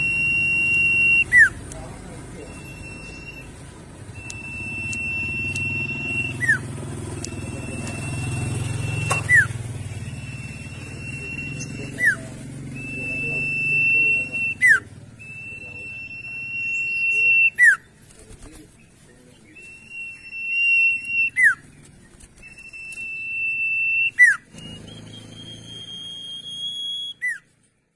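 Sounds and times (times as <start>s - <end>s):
songbird whistling: 0.0s - 1.6s, 2.4s - 18.0s, 19.2s - 27.5s.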